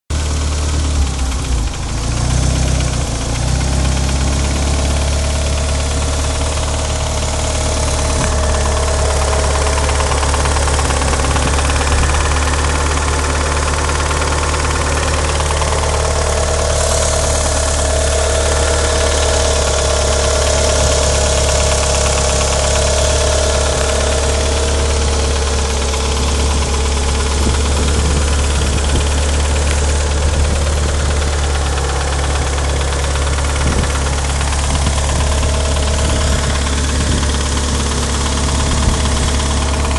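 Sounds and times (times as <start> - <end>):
car engine idling: 0.1 - 39.9
engine clicking: 0.1 - 39.9.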